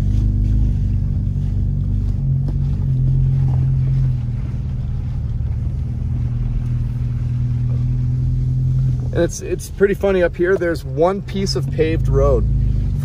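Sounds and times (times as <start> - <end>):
car engine running: 0.0 - 13.0
tyres droning on dirt track: 0.0 - 13.0.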